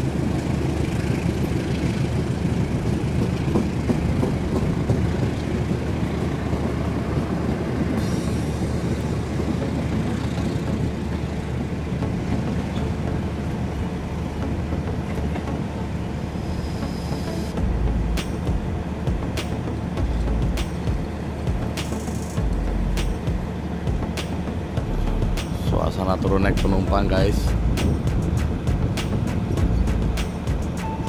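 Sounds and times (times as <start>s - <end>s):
train rumbling on tracks: 0.0s - 31.0s.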